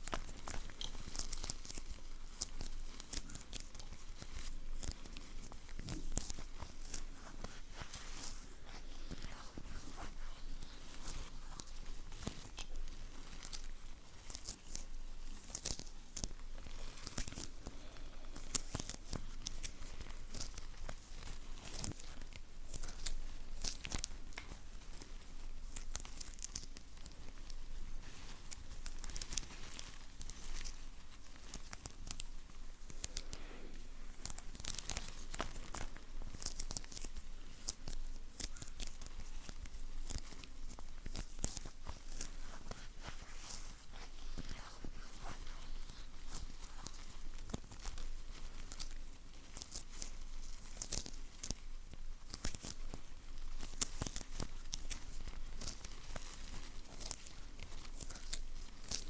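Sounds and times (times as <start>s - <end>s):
sticky surface peeling and crackling: 0.0s - 59.0s.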